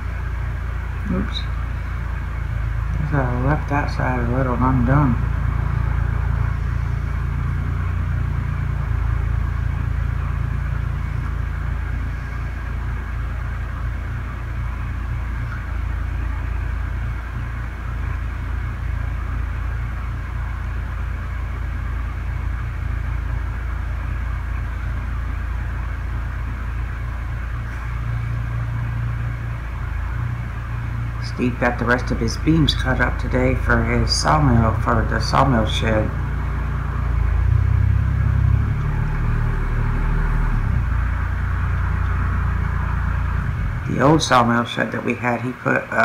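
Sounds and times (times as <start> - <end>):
mechanical hum with hiss: 0.0 - 46.0.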